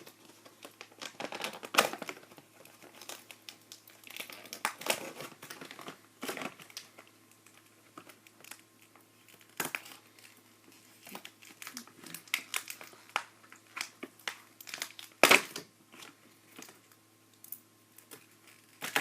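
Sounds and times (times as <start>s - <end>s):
plastic packaging crinkling: 0.0s - 17.0s, 17.9s - 19.0s.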